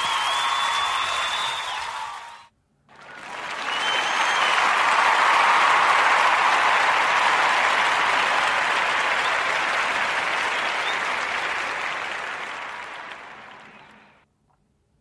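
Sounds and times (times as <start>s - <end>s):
crowd applause: 0.0s - 14.2s.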